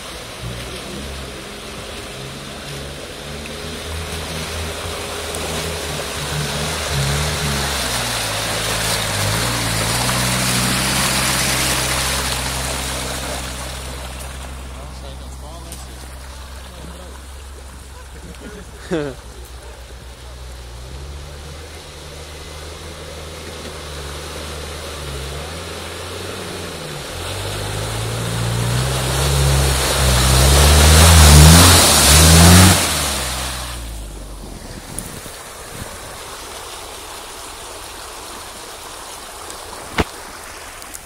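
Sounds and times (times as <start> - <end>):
off-road engine revving: 0.0 - 38.3
tyres churning mud: 0.0 - 41.0.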